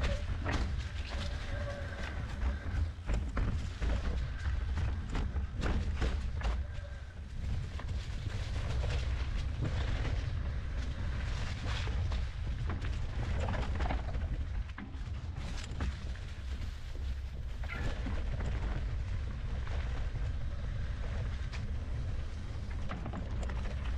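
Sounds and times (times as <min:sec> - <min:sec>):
bike tyres and frame rattling: 0:00.0 - 0:23.9
wind and vibration rumble: 0:00.0 - 0:23.9.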